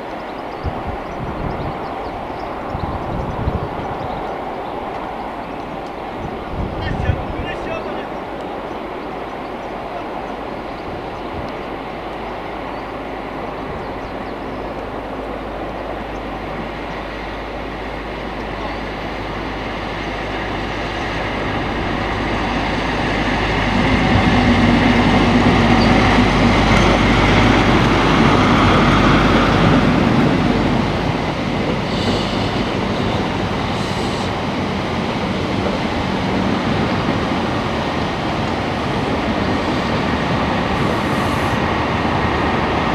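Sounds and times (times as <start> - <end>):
train engine low tone: 0.0 - 42.9
train wheels rolling on rails: 0.0 - 42.9.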